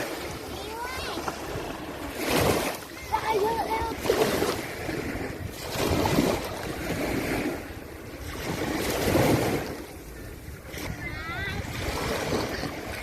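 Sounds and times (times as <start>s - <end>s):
sea waves washing ashore: 0.0s - 13.0s
wind rumbling on microphone: 0.0s - 13.0s.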